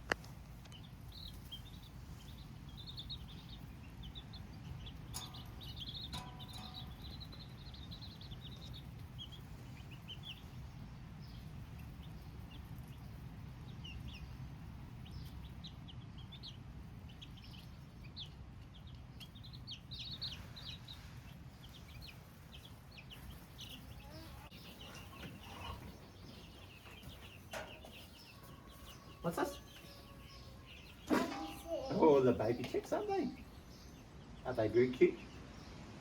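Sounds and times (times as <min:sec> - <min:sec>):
baby chicks cheeping: 0:00.0 - 0:36.0.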